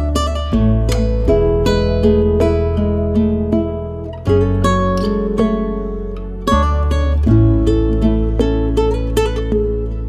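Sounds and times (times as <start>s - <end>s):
plucked-string instrumental music: 0.0s - 10.0s
sustained bass line: 0.0s - 10.0s.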